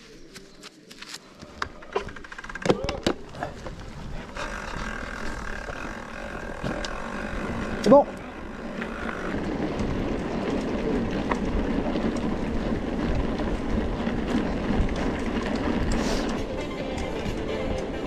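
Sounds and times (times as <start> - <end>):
bike tyres rumbling on dirt: 0.1 - 18.0
bike parts rattling: 0.9 - 18.0.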